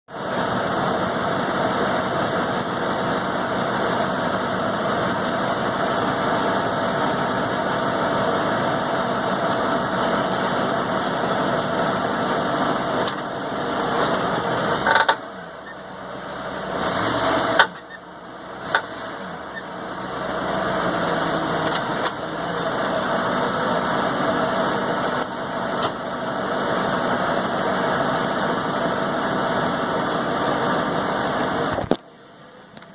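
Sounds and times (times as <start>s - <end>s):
truck engine running: 0.1s - 32.9s.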